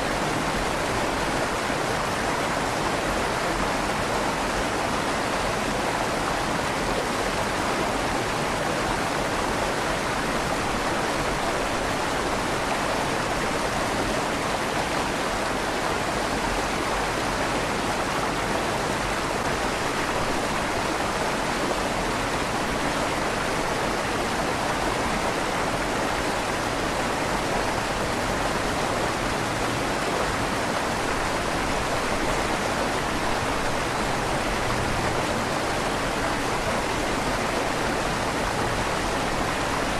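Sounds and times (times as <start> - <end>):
river water rushing in tunnel: 0.0 - 39.9.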